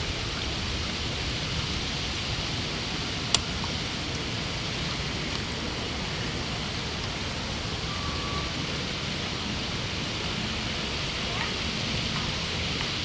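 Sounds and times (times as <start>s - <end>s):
distant traffic hiss and rumble: 0.0s - 13.0s.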